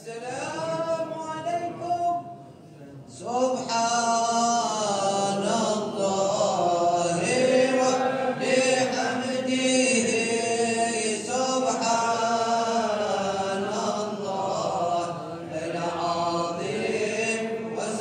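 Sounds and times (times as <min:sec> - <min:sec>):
man chanting: 0:00.0 - 0:02.5, 0:03.1 - 0:18.0.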